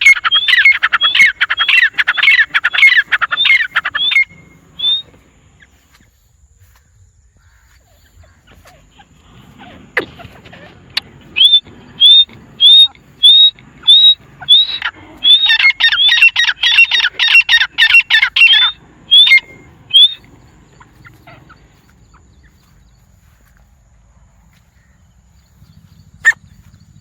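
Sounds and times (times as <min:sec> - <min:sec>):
francolins calling: 0:00.0 - 0:27.0.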